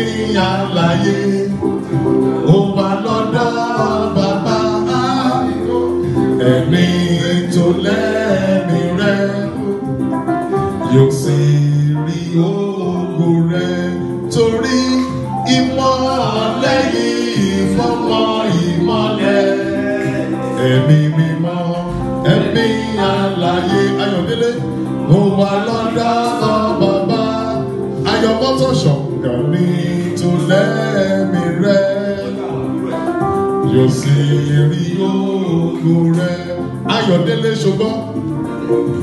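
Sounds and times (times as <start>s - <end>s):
instrumental accompaniment: 0.0s - 39.0s
man singing into a microphone: 0.0s - 39.0s.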